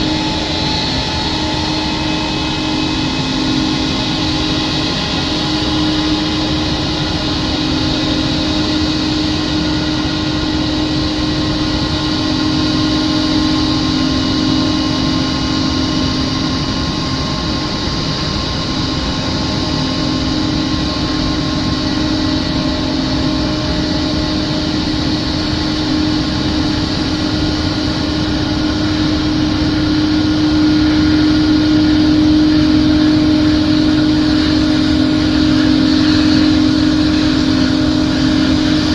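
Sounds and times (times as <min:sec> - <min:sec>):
jet engines humming and whining: 0:00.0 - 0:38.9.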